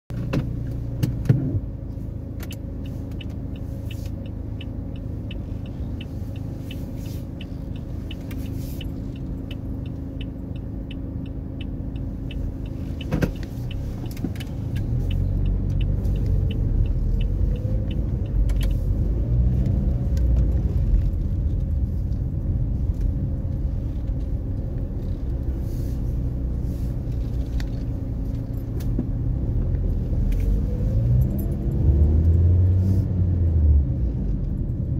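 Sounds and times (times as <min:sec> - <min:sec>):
car engine: 0:00.1 - 0:34.9
road rumble: 0:00.1 - 0:34.9.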